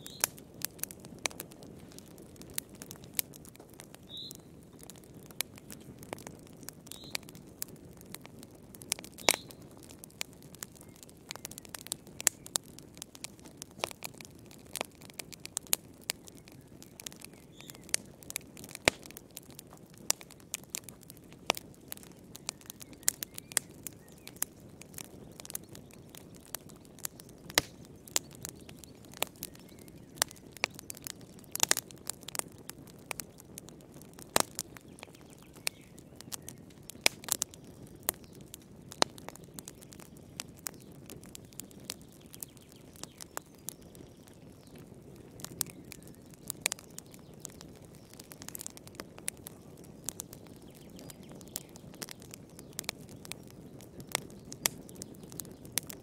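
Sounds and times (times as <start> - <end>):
log fire crackling: 0.0 - 56.0.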